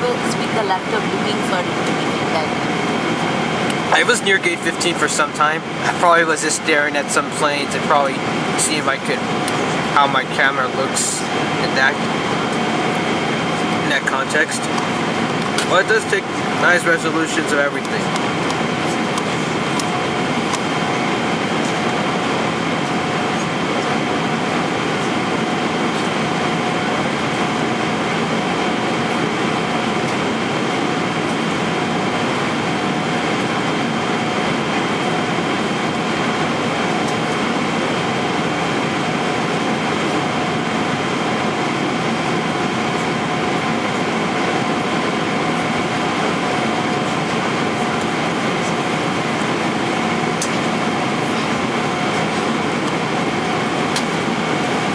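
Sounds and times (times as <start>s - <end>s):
faint steady hum: 0.0s - 54.9s
jet engine drone: 0.0s - 54.9s.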